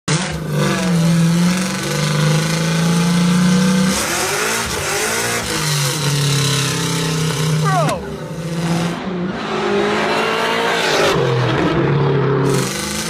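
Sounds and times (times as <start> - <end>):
engine running: 0.1 - 13.0.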